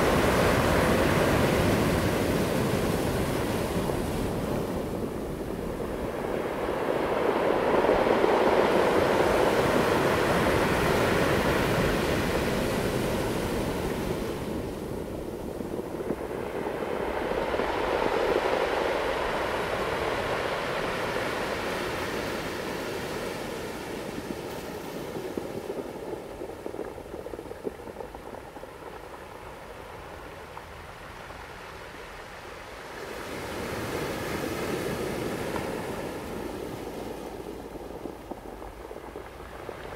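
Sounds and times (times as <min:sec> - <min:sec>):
ocean waves breaking: 0:00.0 - 0:28.0, 0:31.1 - 0:39.9.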